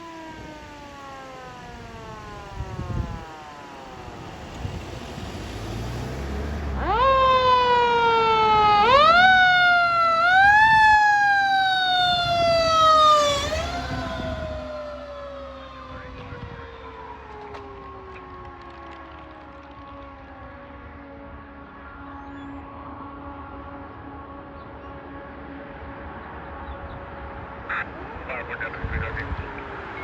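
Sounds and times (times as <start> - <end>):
fire engine siren: 0.0 - 30.0
truck engine rumbling: 0.4 - 21.9, 23.0 - 30.0.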